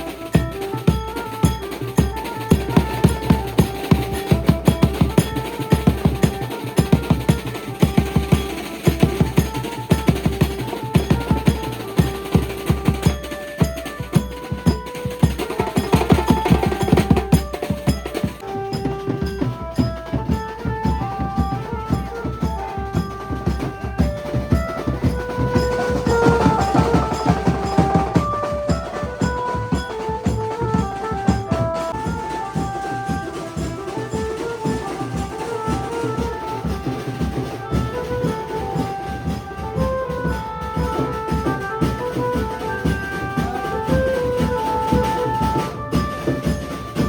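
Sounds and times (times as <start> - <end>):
loud dense drum beats: 0.0 - 47.0.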